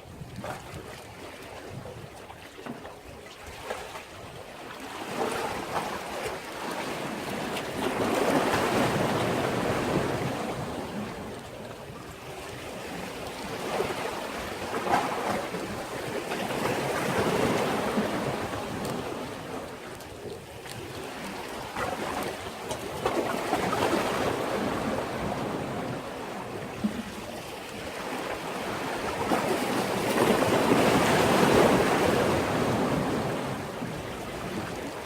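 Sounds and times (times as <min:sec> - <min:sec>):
sea waves against a breakwater: 0:00.0 - 0:35.0.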